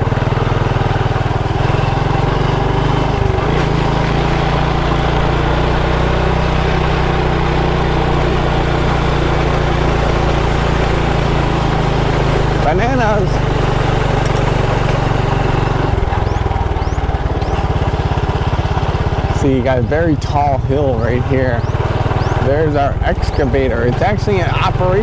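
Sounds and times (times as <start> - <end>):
motorbike engine running: 0.0 - 25.0.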